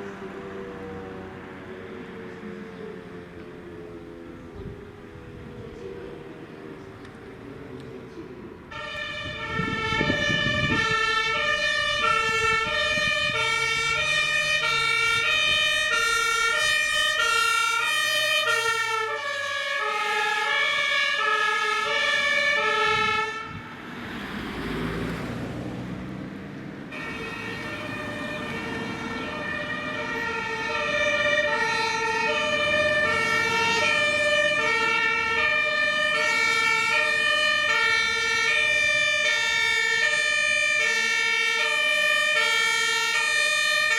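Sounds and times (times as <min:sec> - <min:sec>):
two-tone sirens: 0:00.0 - 0:43.9
vehicles rushing past: 0:00.0 - 0:43.9.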